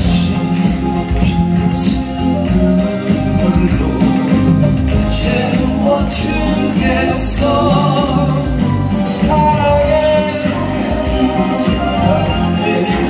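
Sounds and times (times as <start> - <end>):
backing track with bass and guitar: 0.0 - 13.0
person singing: 0.0 - 13.0.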